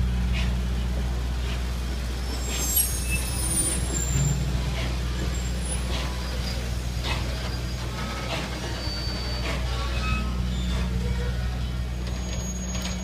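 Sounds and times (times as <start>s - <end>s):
train coaches rumbling by: 0.0s - 13.0s
wheels clicking over rail joints: 0.0s - 13.0s
thin high wheel squeal: 2.2s - 13.0s.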